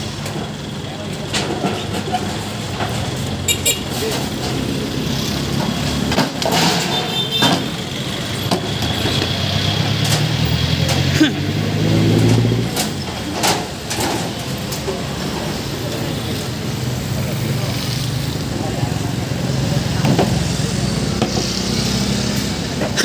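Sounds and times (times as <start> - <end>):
passing vehicle engine: 0.0 - 23.0
street traffic: 0.0 - 23.0.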